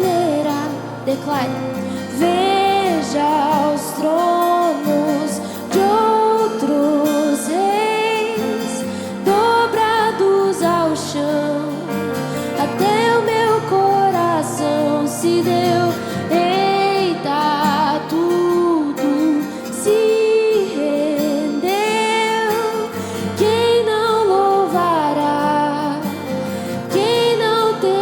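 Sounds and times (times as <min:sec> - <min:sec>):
worship song singing: 0:00.0 - 0:28.0.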